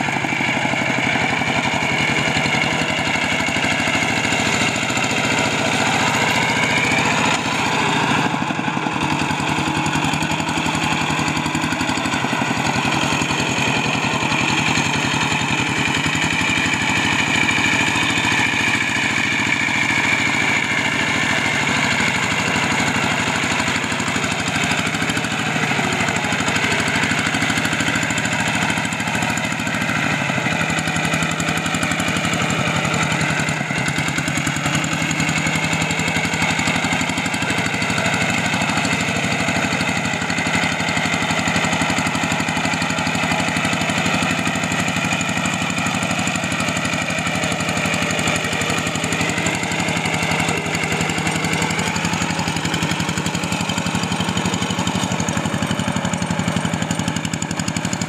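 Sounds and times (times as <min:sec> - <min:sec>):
diesel engine running: 0:00.0 - 0:58.0
plough through mud: 0:00.0 - 0:58.0.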